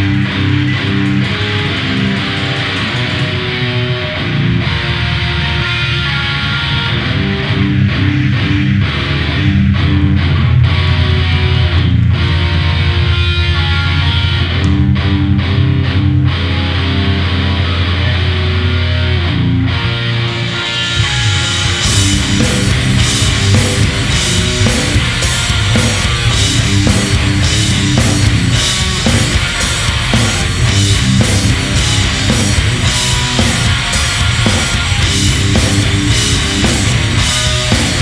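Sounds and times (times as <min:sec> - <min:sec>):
bass guitar: 0:00.0 - 0:38.0
distorted electric guitar riffing: 0:00.0 - 0:38.0
drums: 0:00.0 - 0:38.0.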